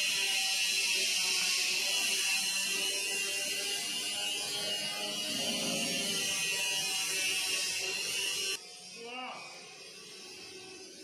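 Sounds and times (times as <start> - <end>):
high-pitched motor whir: 0.0 - 11.0.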